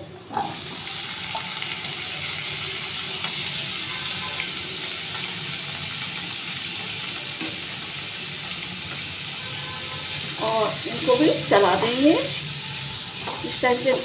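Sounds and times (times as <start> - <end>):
vegetables sizzling in hot fat: 0.0 - 14.0.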